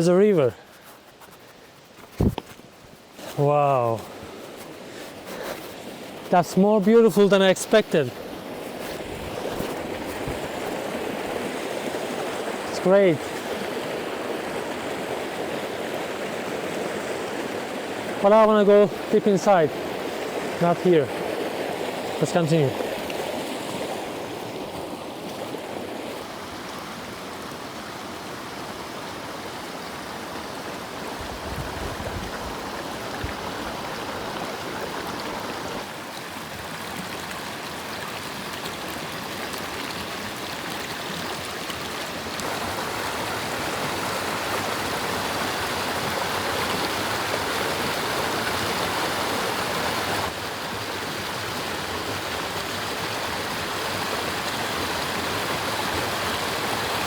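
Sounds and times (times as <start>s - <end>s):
river water rushing and splashing: 0.0s - 57.0s.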